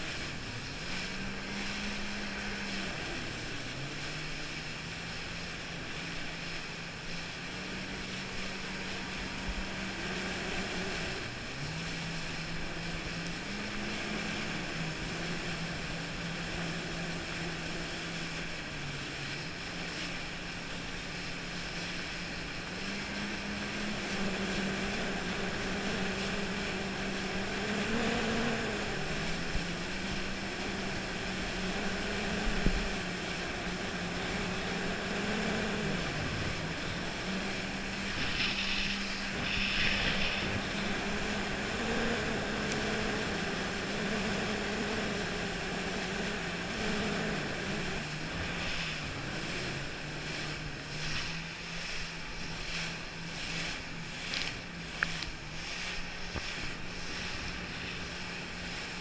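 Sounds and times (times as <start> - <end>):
jet ski engine revving: 0.0 - 59.0
wind and water hiss: 0.0 - 59.0.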